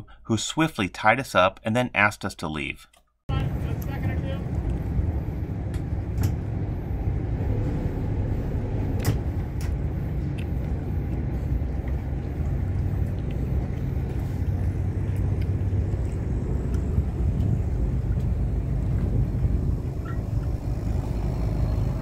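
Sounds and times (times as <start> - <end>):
boat engine low rumble: 3.3 - 22.0.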